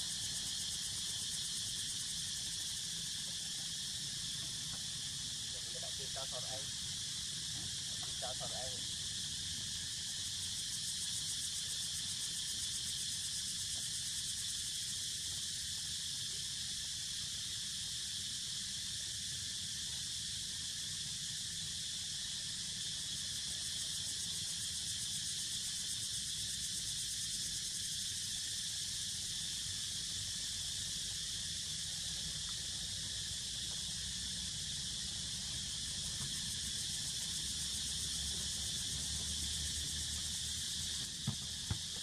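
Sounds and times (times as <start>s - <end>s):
pulsing insect chorus: 0.0s - 42.0s.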